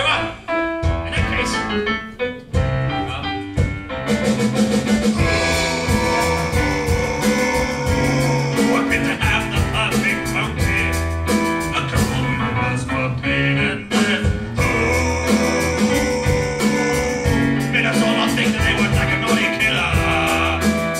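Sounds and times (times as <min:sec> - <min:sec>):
stage musical band music: 0:00.4 - 0:20.9.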